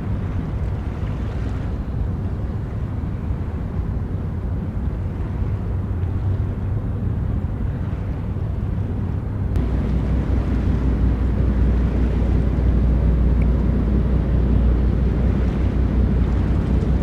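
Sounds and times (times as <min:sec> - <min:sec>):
ship engines rumbling: 0:00.0 - 0:17.0
wind buffeting microphone: 0:00.0 - 0:17.0.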